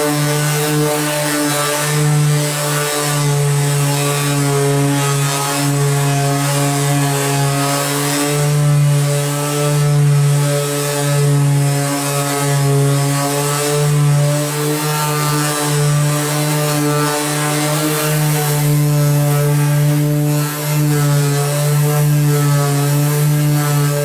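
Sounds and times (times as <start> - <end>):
orbital sander sanding: 0.0 - 24.0.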